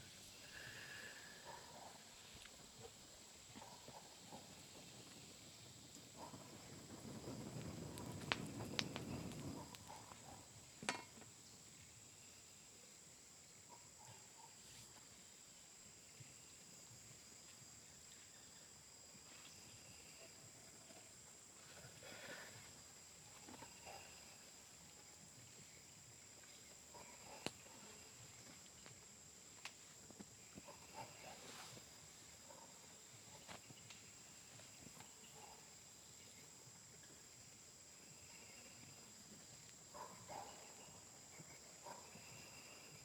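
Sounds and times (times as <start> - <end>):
crickets droning: 0.0 - 43.0.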